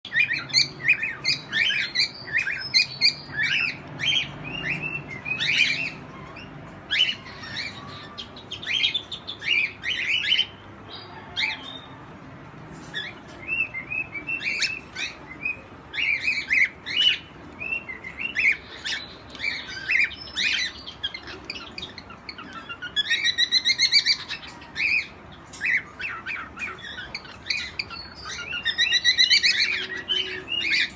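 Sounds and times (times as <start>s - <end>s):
birds chirping and twittering: 0.0s - 30.9s.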